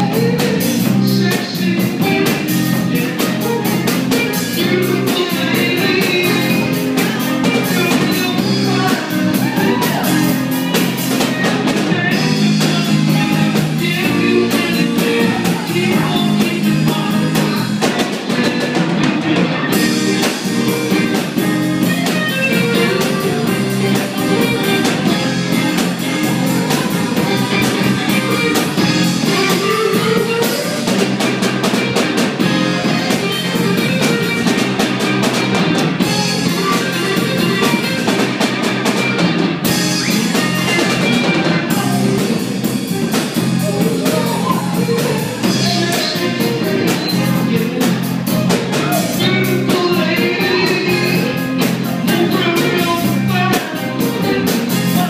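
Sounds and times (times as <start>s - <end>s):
electric guitar: 0.0s - 55.0s
steady drumbeat: 0.0s - 55.0s.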